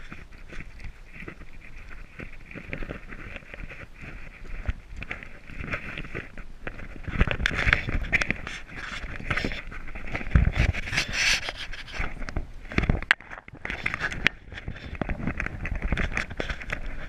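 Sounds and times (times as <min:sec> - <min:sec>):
hand rubbing and scraping camera: 0:00.0 - 0:17.0.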